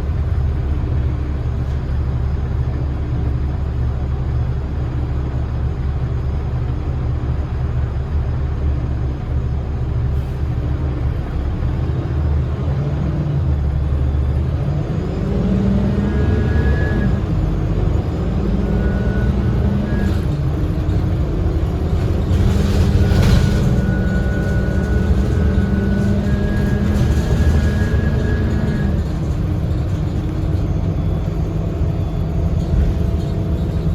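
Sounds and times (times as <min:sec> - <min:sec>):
bus engine rumble: 0:00.0 - 0:33.9
high transmission whine: 0:00.0 - 0:33.9.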